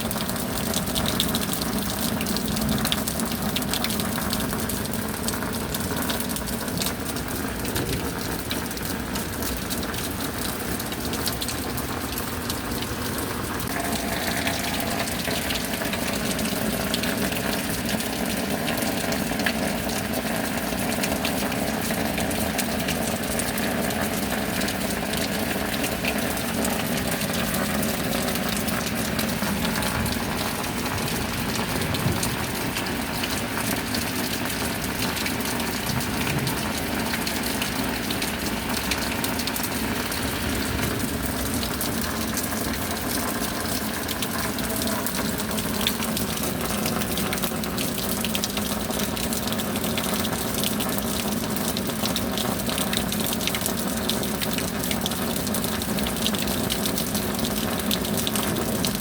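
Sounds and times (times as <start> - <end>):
heavy rain: 0.0 - 59.0
water pouring and gushing: 0.0 - 59.0.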